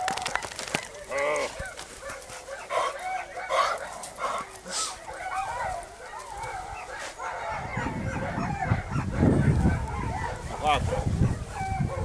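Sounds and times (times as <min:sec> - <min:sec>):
dogs whining and yelping: 0:00.1 - 0:12.0.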